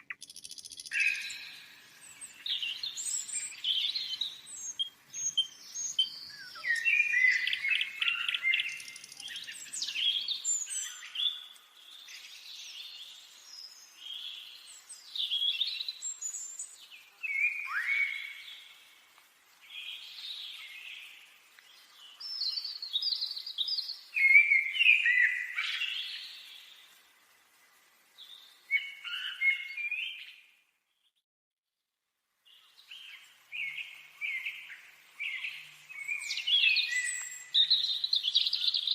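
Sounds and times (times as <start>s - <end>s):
songbirds singing: 0.0s - 31.2s, 32.4s - 38.9s.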